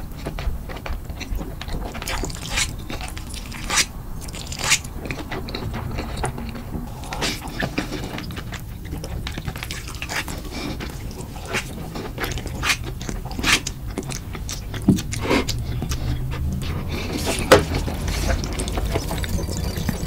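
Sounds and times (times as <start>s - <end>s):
noodles slurped and chewed: 0.0s - 20.0s
wet mouth smacks: 1.2s - 6.1s, 7.0s - 20.0s.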